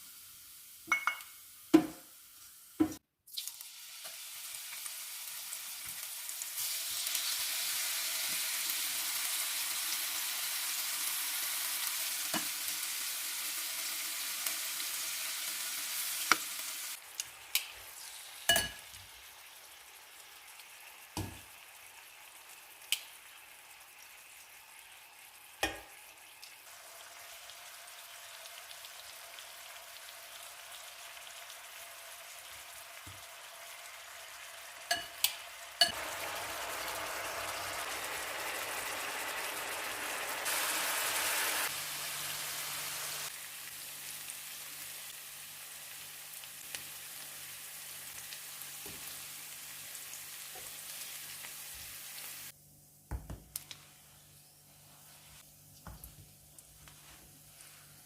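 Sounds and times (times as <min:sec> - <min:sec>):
steady sizzling hiss: 0:00.0 - 0:58.0.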